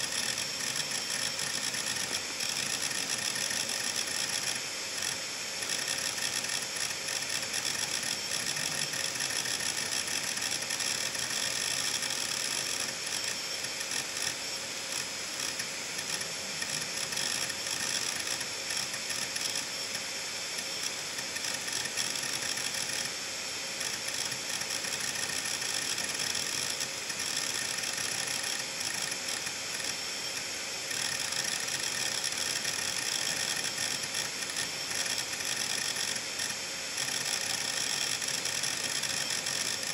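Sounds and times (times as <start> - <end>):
hard drive platters whining: 0.0 - 39.9.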